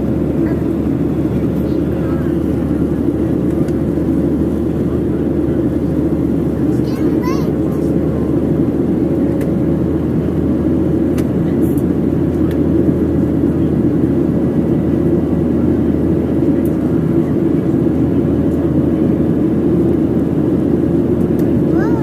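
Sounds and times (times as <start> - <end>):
airplane cabin engine rush: 0.0 - 22.0.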